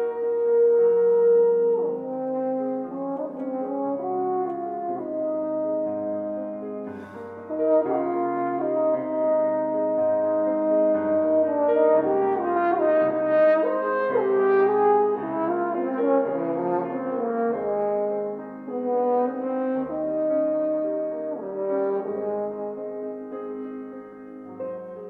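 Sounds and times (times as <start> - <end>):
french horn melody: 0.0 - 25.0
piano accompaniment: 0.0 - 25.0.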